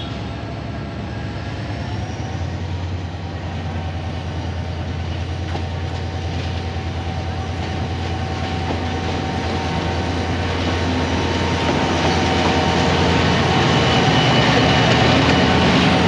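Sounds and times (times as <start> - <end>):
passenger train rumbling: 0.0 - 16.0.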